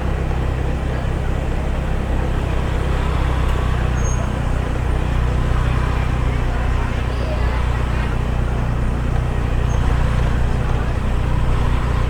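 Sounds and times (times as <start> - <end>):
car engine low rumble: 0.0 - 12.0
road noise inside car: 0.0 - 12.0.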